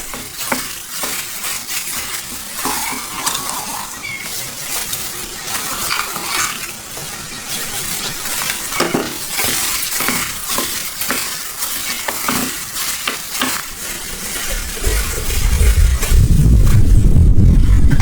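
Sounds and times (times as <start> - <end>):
food sizzling: 0.0 - 17.4.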